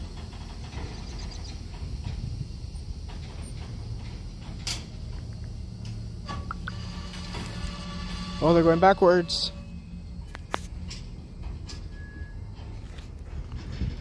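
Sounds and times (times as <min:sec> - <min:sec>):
train cars creaking and knocking: 0:00.0 - 0:14.0
train rumbling slowly: 0:00.0 - 0:14.0.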